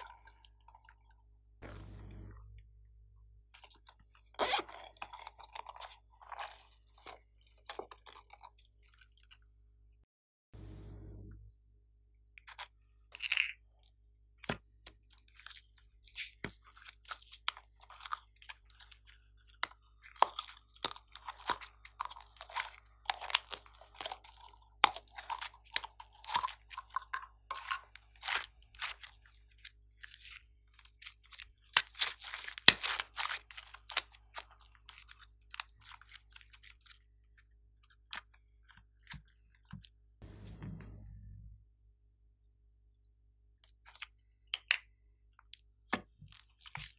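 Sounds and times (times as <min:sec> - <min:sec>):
clay squelching and crackling: 0:03.5 - 0:10.0, 0:12.3 - 0:40.2, 0:43.6 - 0:46.9.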